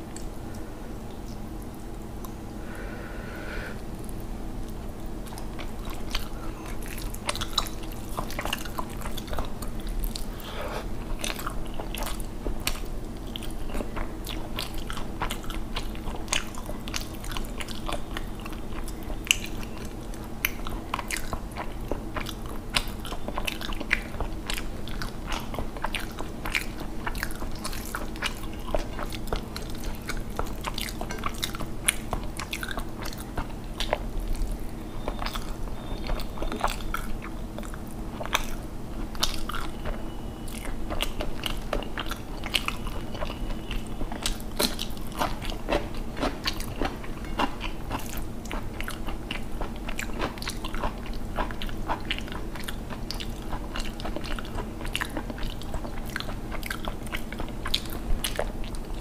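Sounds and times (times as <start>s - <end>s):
chewing with wet mouth clicks: 0.0s - 2.6s, 3.9s - 10.4s, 11.0s - 59.0s.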